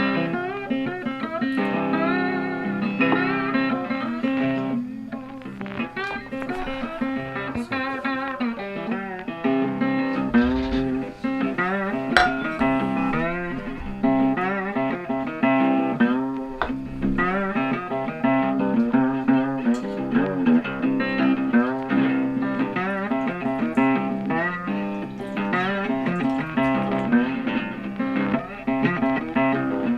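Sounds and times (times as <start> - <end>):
blues guitar music: 0.0 - 29.9.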